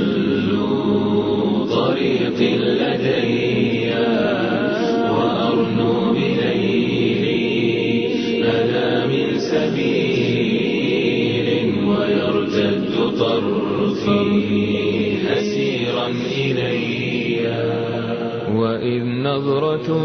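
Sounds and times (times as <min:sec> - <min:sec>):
voices chanting a drone: 0:00.0 - 0:20.0.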